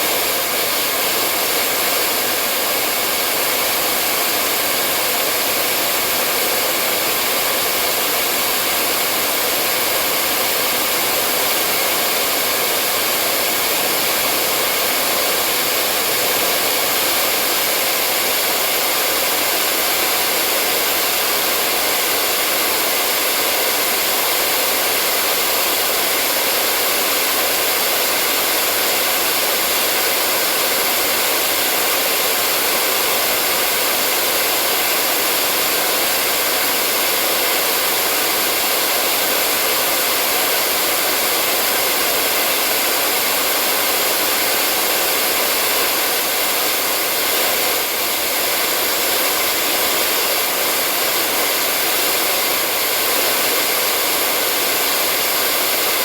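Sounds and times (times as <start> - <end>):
electric hair dryer running: 0.0 - 56.0.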